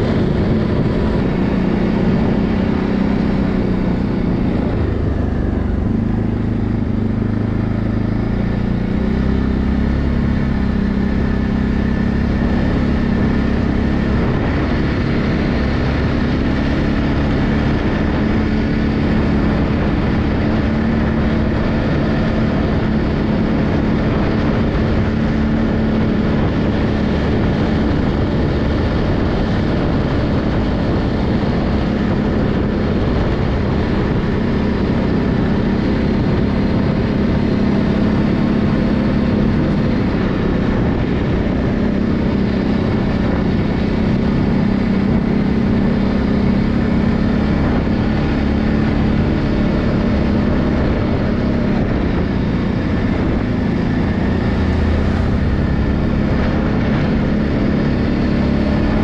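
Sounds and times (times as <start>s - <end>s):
atv engine running: 0.0s - 59.0s
continuous rushing noise: 0.0s - 59.0s.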